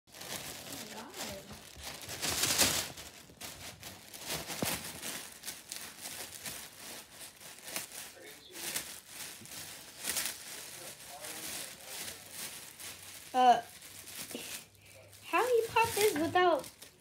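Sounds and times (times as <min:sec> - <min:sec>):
foil balloon crinkling and tearing: 0:00.1 - 0:17.0.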